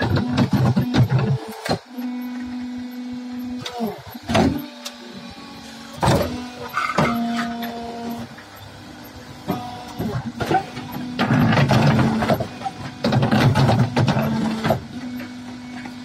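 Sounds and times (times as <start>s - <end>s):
brick press motor hum: 0.0s - 16.0s.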